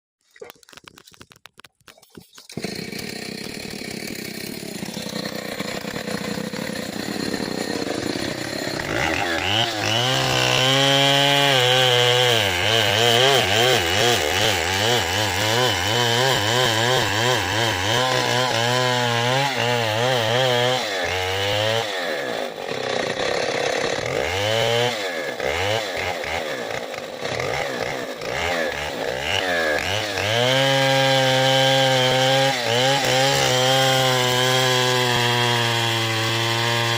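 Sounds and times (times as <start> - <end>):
chainsaw cutting wood: 1.9 - 36.9.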